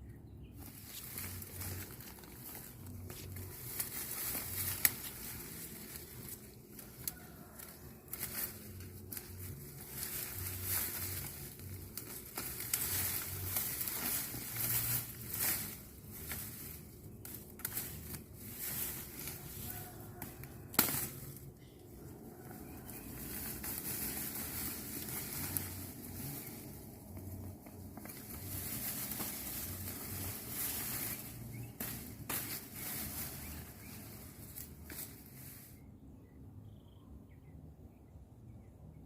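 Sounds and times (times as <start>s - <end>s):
crop stalks crunching as cut: 0.6s - 35.7s
stalks snapping: 0.8s - 21.6s, 22.9s - 35.2s.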